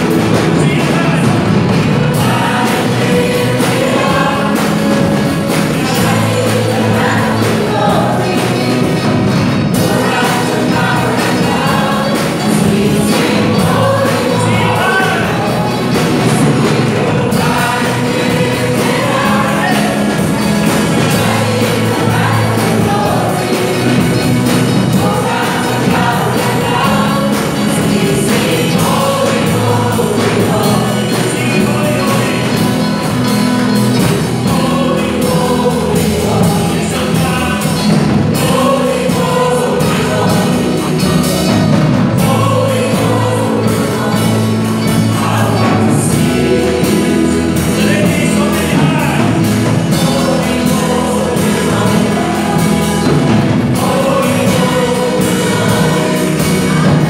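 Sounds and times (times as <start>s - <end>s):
band playing: 0.0s - 57.0s
group singing praise song: 0.0s - 57.0s.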